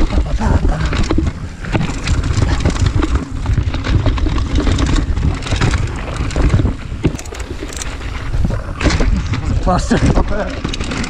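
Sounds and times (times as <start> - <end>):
bike rattling over bumps: 0.0 - 11.0
bike tyres rolling over dirt: 0.0 - 11.0
wind rumbling on microphone: 0.0 - 11.0.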